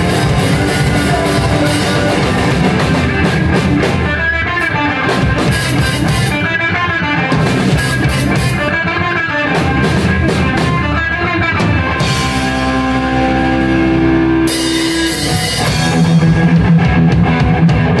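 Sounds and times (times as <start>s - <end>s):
drum kit beating: 0.0s - 18.0s
electric guitars: 0.0s - 18.0s.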